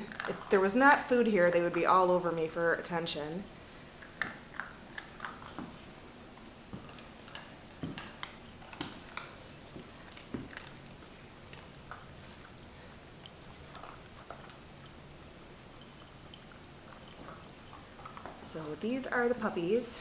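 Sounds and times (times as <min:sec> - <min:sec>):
puppies chewing and crunching food: 0:00.0 - 0:20.0.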